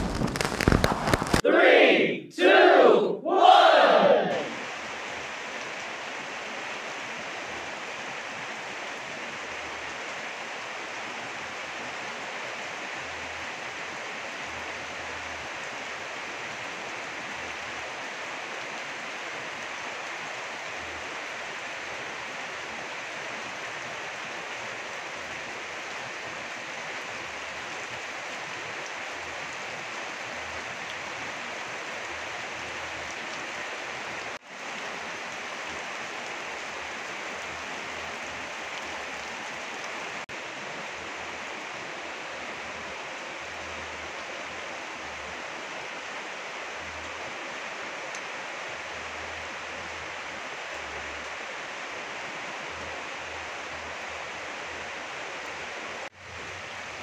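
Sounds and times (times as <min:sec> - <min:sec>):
rain on leaves and pond: 0:00.0 - 0:01.4, 0:03.5 - 0:57.0.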